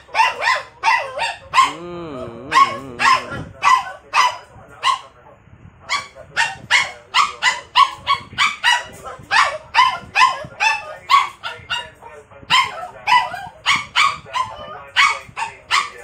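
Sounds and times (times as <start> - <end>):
small dog barking rapidly: 0.0 - 5.1, 5.9 - 16.0.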